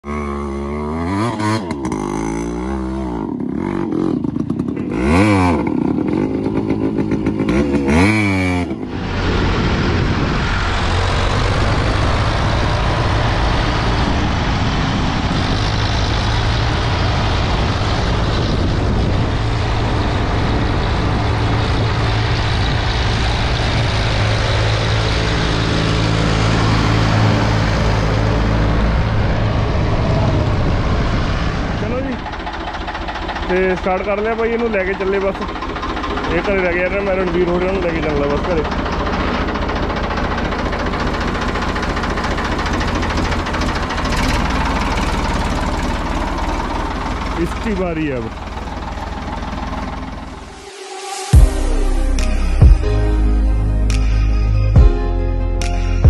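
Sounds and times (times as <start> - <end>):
motorcycle engine revving: 0.0 - 54.0
tractor engine running: 1.2 - 50.7.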